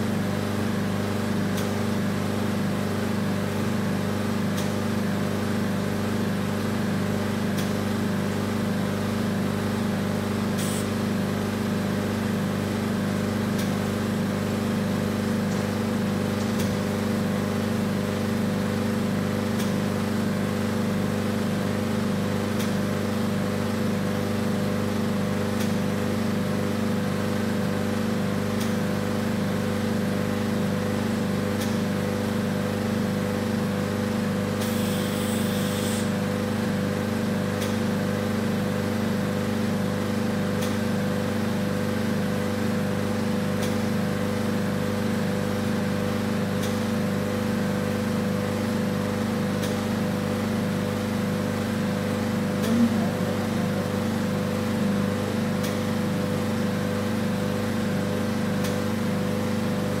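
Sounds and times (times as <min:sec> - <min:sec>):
vacuum pump humming: 0:00.0 - 1:00.0.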